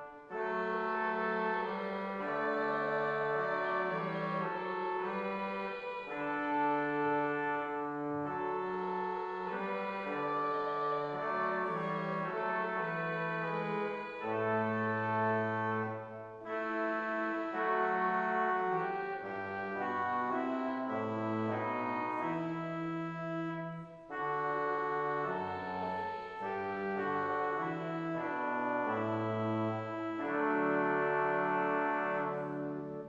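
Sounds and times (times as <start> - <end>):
church organ playing hymn: 0.0 - 33.0.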